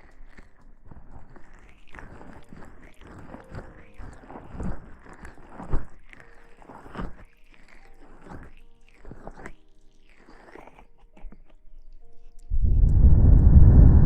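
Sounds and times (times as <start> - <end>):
rustling and crackling: 0.0 - 12.5.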